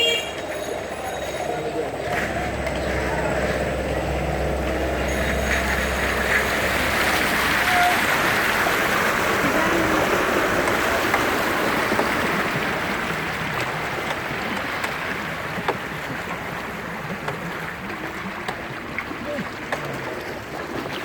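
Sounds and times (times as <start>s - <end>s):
floodwater rushing and splashing: 0.4s - 21.0s.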